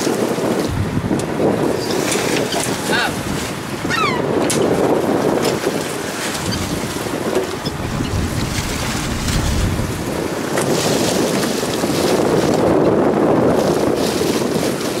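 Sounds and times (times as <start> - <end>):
sea washing around boat: 0.0 - 15.0
wind buffeting microphone: 0.0 - 15.0.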